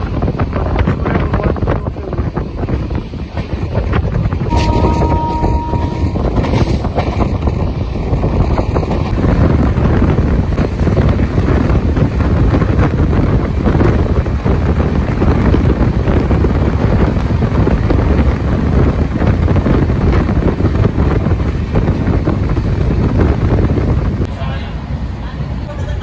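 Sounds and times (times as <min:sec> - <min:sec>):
train rumbling and clattering on track: 0:00.0 - 0:26.0
wind rushing over microphone: 0:00.0 - 0:26.0.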